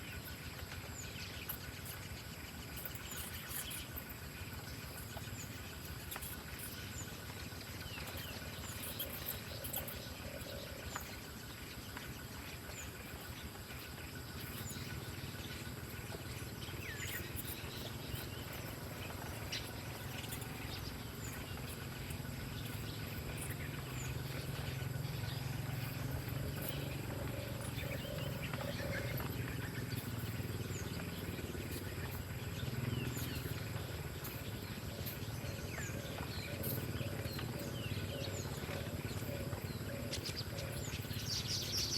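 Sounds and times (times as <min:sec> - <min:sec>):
insect drone: 0:00.0 - 0:41.9.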